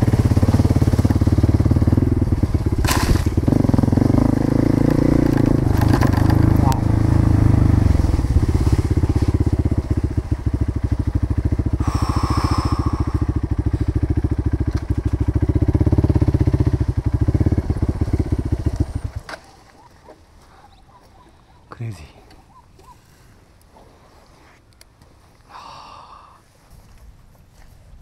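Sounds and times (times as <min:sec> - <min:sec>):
motorcycle engine idling: 0:00.0 - 0:23.3.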